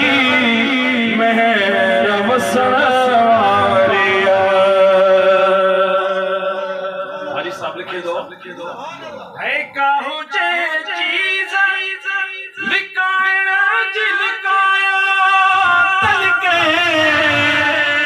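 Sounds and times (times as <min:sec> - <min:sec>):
man singing unaccompanied: 0:00.0 - 0:07.3, 0:09.5 - 0:18.0.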